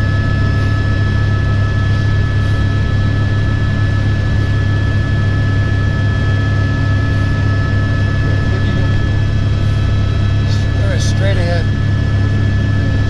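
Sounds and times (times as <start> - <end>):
helicopter rotor and engine noise: 0.0 - 13.0
high engine whine: 0.0 - 13.0.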